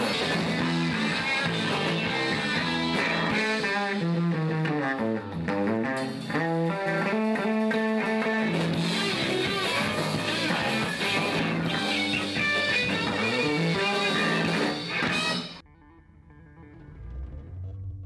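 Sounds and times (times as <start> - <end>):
rock music with bass and guitar: 0.0 - 17.6.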